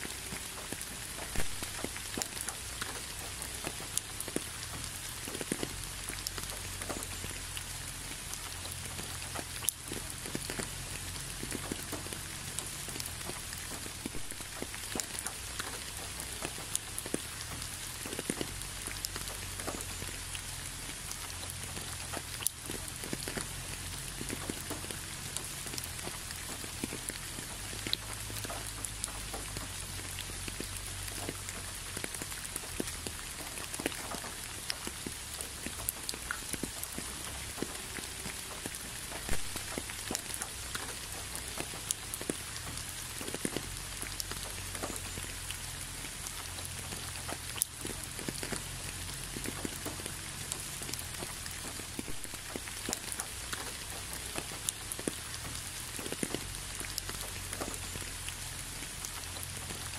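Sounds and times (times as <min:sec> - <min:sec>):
raindrops ticking on a surface: 0:00.0 - 0:59.9
steady rain hiss: 0:00.0 - 0:59.9.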